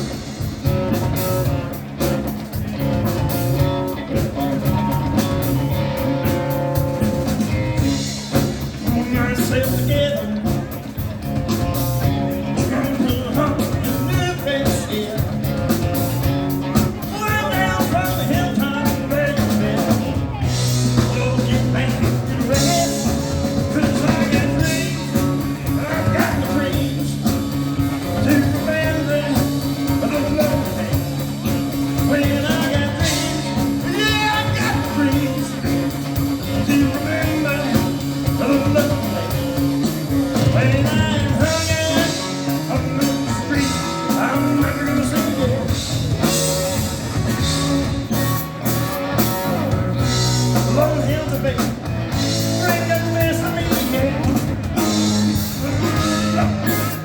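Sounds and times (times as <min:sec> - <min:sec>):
live rock band playing: 0:00.0 - 0:57.0
person singing: 0:03.6 - 0:15.8, 0:16.7 - 0:48.4, 0:50.3 - 0:57.0.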